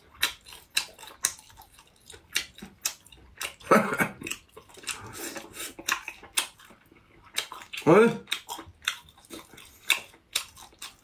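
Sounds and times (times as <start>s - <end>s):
wet chewing mouth clicks: 0.0s - 11.0s.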